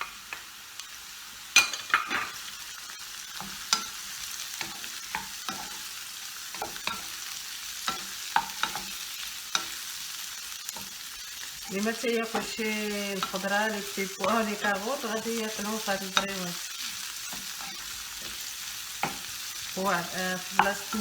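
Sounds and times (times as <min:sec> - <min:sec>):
vegetables sizzling in oil: 0:00.0 - 0:21.0
spoon scraping and knocking pan: 0:01.6 - 0:21.0.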